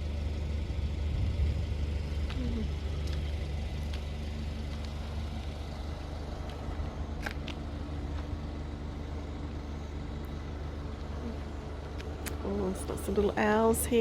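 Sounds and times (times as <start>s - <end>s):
car engine running at low speed: 0.0s - 14.0s.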